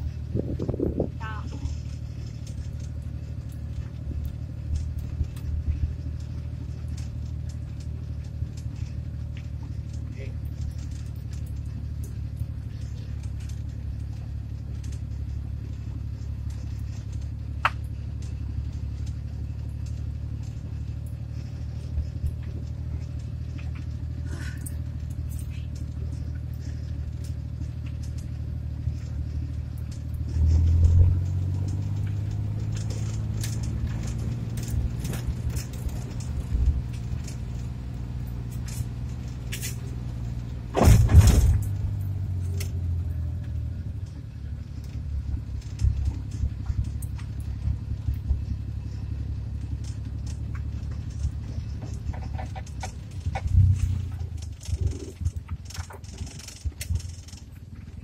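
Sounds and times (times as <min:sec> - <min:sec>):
small rattles and clicks: 0:00.0 - 0:58.0
van engine and road drone: 0:00.0 - 0:58.0.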